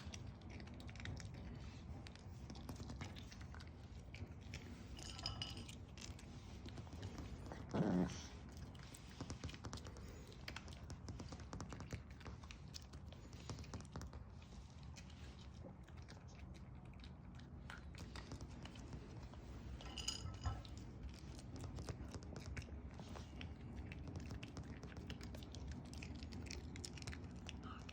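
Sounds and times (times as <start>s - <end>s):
dog chewing dry kibble: 0.0s - 27.9s.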